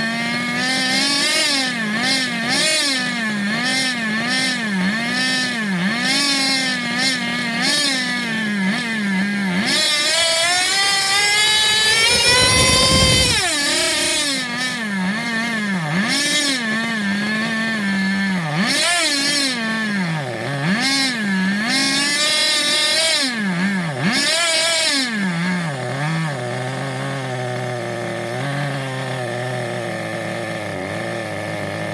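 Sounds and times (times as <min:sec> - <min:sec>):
model car engine revving: 0:00.0 - 0:31.9.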